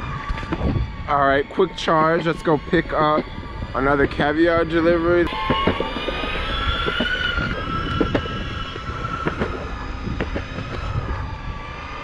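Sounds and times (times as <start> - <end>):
electric motor whine: 0.0 - 12.0
wheels clicking on pavement: 0.1 - 12.0.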